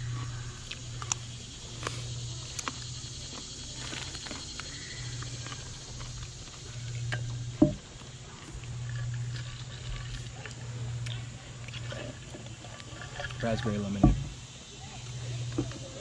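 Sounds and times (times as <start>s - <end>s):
chewing food: 0.0s - 16.0s
low steady hum: 0.0s - 16.0s.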